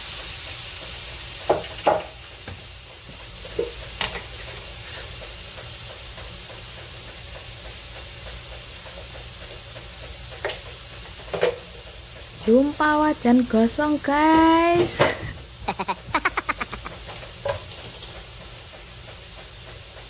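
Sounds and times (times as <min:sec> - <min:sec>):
meat sizzling in a wok: 0:00.0 - 0:20.0.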